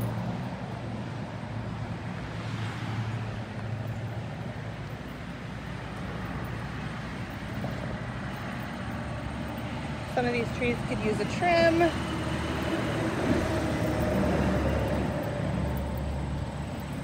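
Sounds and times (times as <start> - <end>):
outdoor background noise: 0.0 - 17.0
vehicle engine humming: 0.0 - 17.0.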